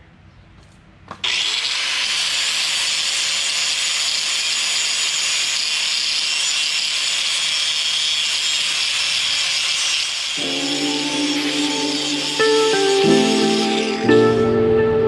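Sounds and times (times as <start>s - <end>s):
angle grinder grinding metal: 1.2s - 14.5s.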